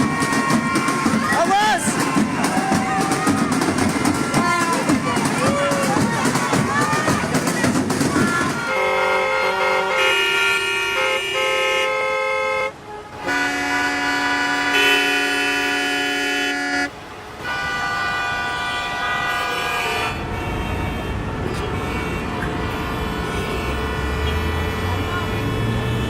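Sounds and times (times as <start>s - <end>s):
horn chords: 0.0s - 26.0s.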